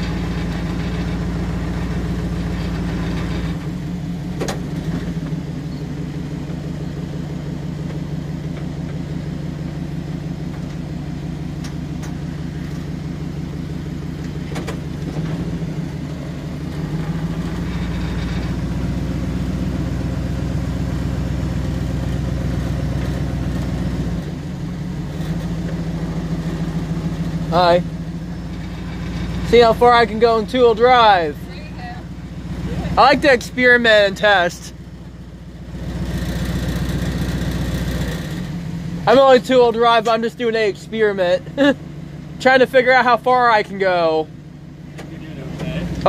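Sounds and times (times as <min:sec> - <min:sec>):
truck engine running at low speed: 0:00.0 - 0:46.0.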